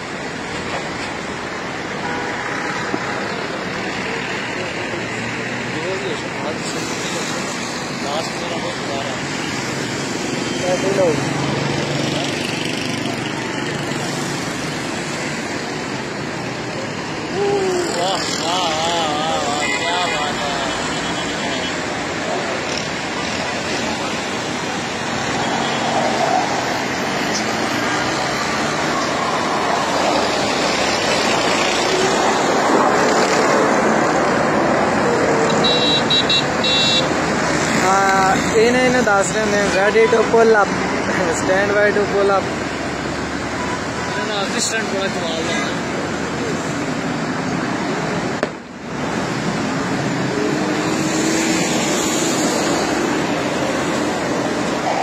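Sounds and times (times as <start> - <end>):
jet engines roaring overhead: 0.0 - 55.0.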